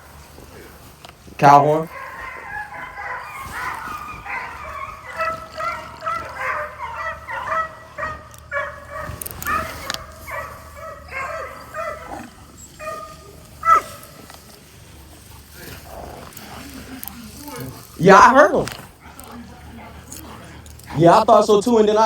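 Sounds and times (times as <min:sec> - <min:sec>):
hounds baying: 0:00.0 - 0:22.0.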